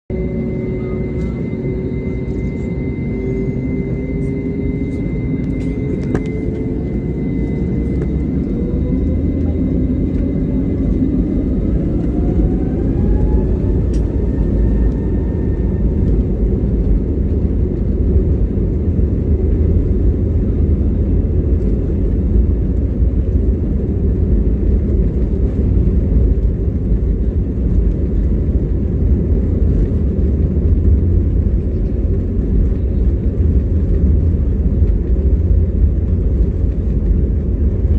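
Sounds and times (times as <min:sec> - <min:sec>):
heavy rumble of takeoff run: 0:00.1 - 0:37.9
jet engine whine rising: 0:00.1 - 0:37.9.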